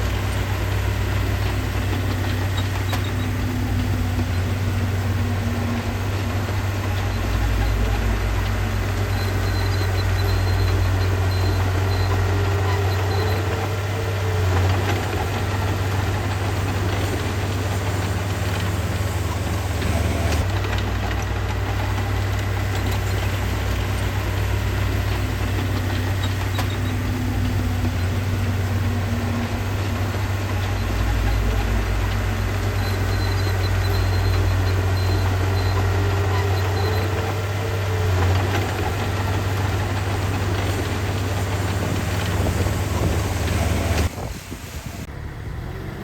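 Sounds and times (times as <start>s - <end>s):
heavy machinery diesel rumble: 0.0s - 46.0s.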